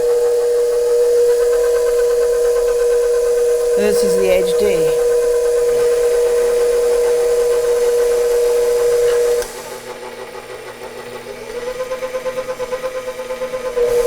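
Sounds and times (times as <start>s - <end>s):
stand mixer motor whining: 0.0s - 3.8s, 4.5s - 14.0s.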